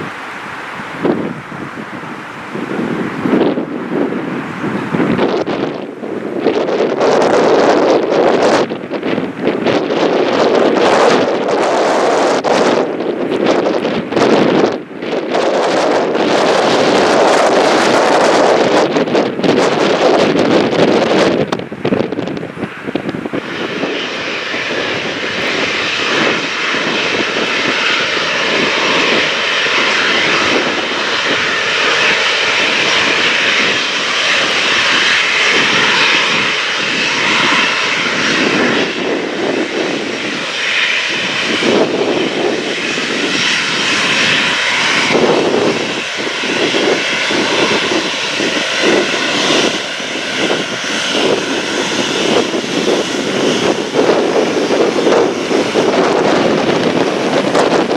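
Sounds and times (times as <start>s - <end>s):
jet engines roaring: 0.0s - 57.9s
wind buffeting microphone: 0.0s - 57.9s.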